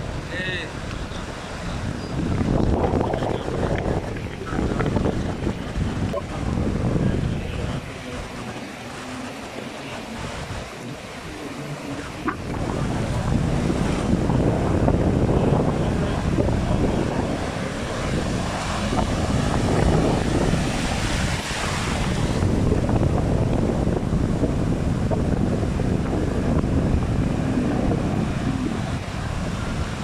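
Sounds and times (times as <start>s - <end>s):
surf: 0.0s - 30.0s
wind buffeting microphone: 0.0s - 30.0s.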